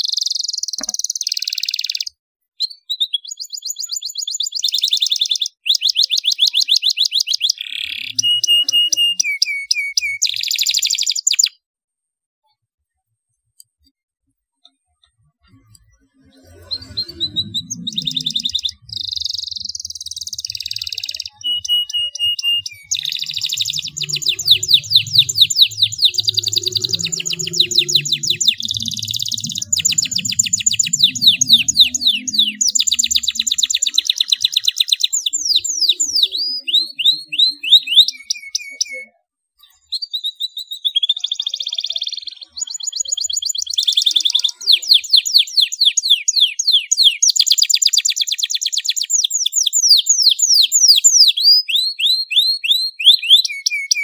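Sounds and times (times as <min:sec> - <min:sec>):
canary singing trills: 0:00.0 - 0:11.6, 0:15.4 - 0:54.0.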